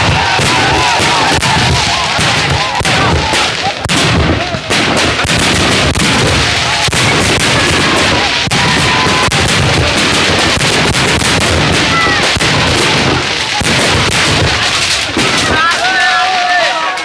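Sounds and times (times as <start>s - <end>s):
firework whistling: 0.0s - 17.0s
fireworks bangs and crackles: 0.0s - 17.0s.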